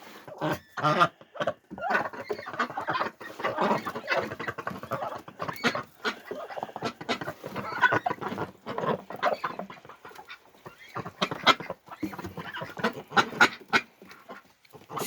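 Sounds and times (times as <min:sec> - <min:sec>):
ducks feeding: 0:00.0 - 0:15.0
ducks calling: 0:00.1 - 0:15.0.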